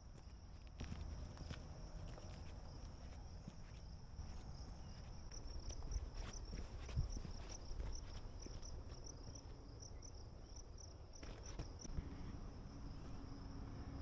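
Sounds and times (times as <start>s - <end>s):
footsteps on a trail: 0.2s - 12.0s.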